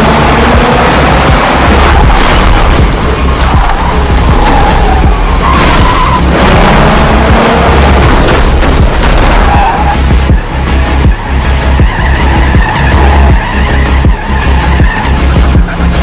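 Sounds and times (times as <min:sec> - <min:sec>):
pulsing bass score: 0:00.0 - 0:16.0
vehicle engine: 0:00.0 - 0:16.0.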